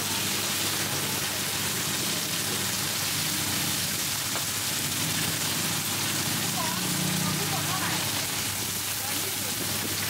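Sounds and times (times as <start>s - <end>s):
hot oil sizzling: 0.0s - 10.0s.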